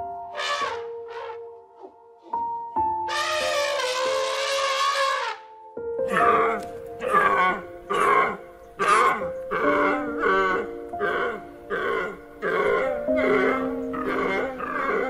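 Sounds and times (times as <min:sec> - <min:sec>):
background music: 0:00.0 - 0:15.0
deer stag calling: 0:00.3 - 0:02.4, 0:03.1 - 0:05.5, 0:06.1 - 0:15.0.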